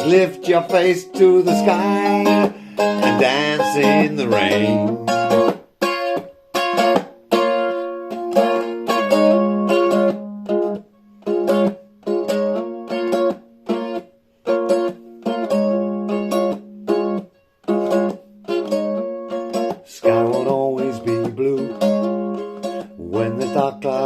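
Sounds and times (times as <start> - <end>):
strummed string instrument chords: 0.0 - 24.0.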